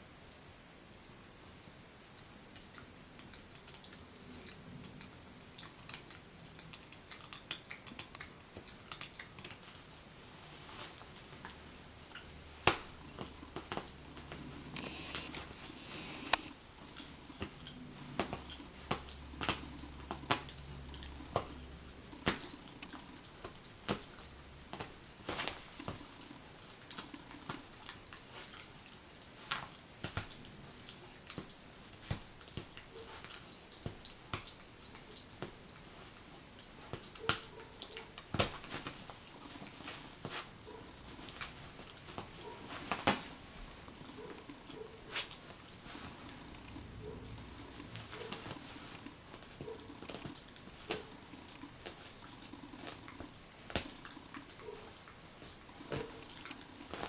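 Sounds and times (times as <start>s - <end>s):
dog chewing toy: 2.6s - 57.0s.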